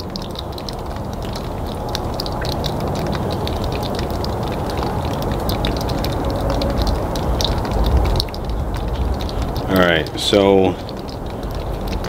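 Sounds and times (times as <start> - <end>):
background rumble and hiss: 0.0 - 12.0
light crackling clicks: 0.0 - 12.0.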